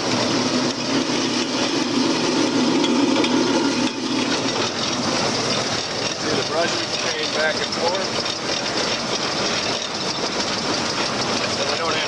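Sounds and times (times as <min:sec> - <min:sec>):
seed cleaner machine rattling: 0:00.0 - 0:12.0.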